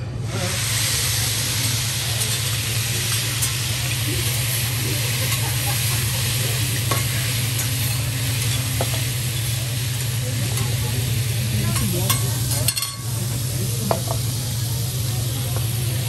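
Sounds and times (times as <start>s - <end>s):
vegetables sizzling on a griddle: 0.2s - 16.0s.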